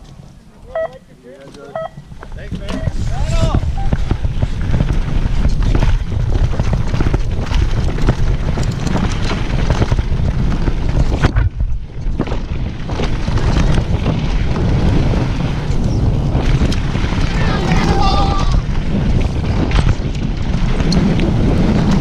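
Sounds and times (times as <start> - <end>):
bike rattling over rough trail: 1.2 - 22.0
wind rushing over microphone: 1.7 - 22.0.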